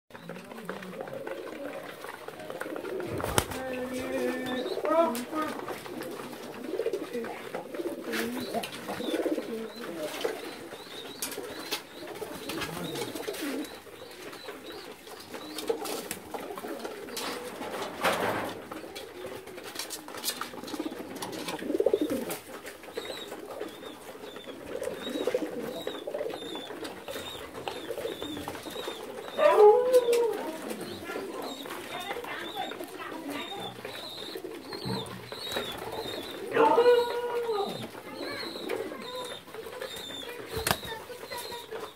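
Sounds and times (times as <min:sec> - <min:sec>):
pigeons cooing: 0:00.1 - 0:41.9
loud pigeon call: 0:00.2 - 0:41.9.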